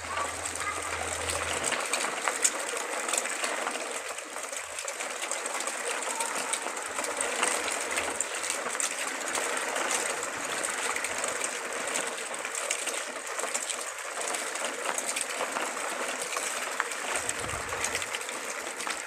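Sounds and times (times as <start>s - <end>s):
plastic toy wheels rattling on asphalt: 0.0s - 19.0s.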